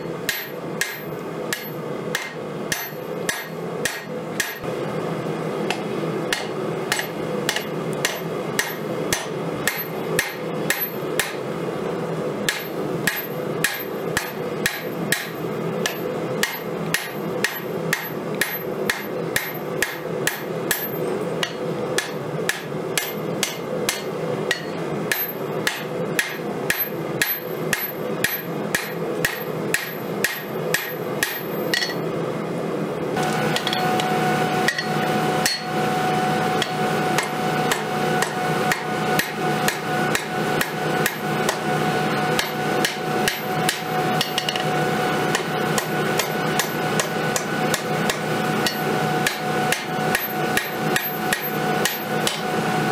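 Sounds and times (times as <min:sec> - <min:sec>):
hammer striking steel on anvil: 0:00.0 - 0:04.7, 0:05.7 - 0:11.5, 0:12.4 - 0:32.0, 0:33.6 - 0:35.8, 0:36.5 - 0:41.6, 0:42.3 - 0:52.6.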